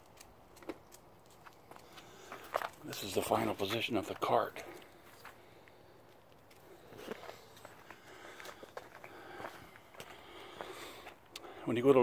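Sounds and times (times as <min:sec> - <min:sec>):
faint footsteps on concrete: 0:00.1 - 0:11.5.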